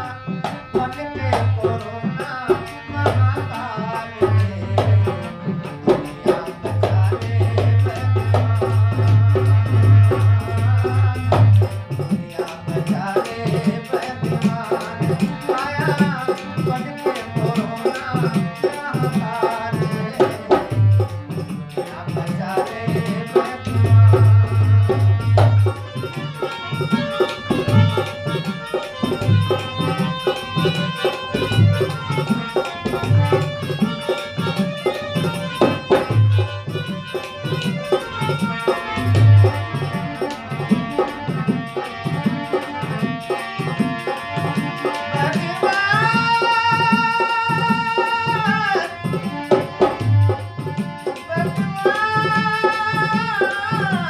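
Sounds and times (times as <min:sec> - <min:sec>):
person singing: 0:00.0 - 0:41.0, 0:41.7 - 0:54.0
hand drum beat: 0:00.0 - 0:54.0
harmonium melody: 0:00.0 - 0:54.0.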